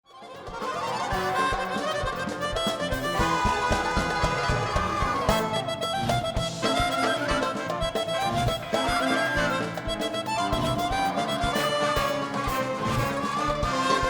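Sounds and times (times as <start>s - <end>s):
instrumental music with steady beat: 0.1s - 14.0s.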